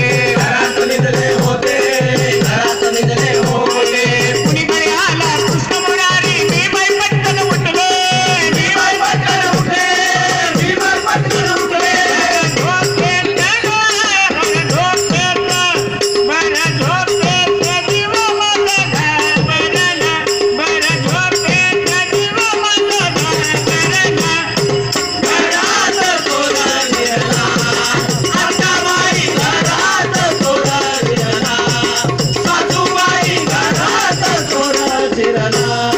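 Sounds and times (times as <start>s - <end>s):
group singing devotional song: 0.0s - 35.9s
rhythmic percussion: 0.0s - 35.9s.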